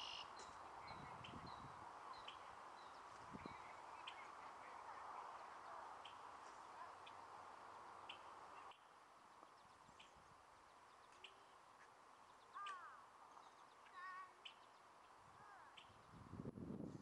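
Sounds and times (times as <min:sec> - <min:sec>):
faint bird chirps: 0:00.0 - 0:16.2.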